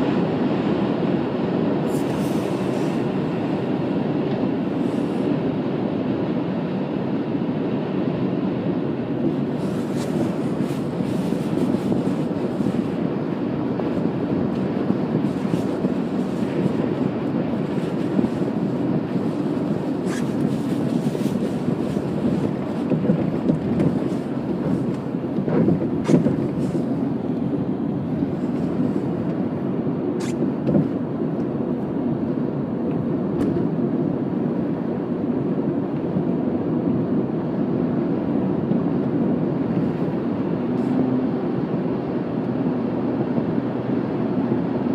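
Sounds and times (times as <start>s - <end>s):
car driving at highway speed: 0.0s - 44.9s.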